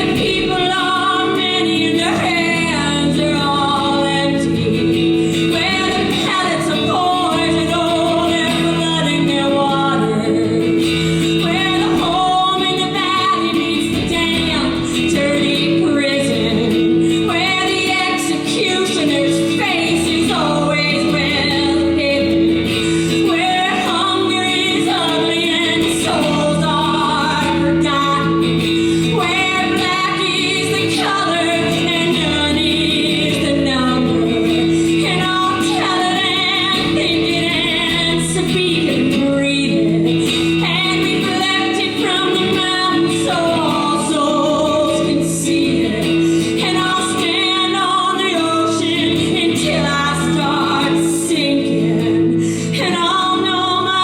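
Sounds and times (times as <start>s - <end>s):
guitar accompaniment: 0.0s - 54.0s
woman singing a folk song: 0.0s - 54.0s.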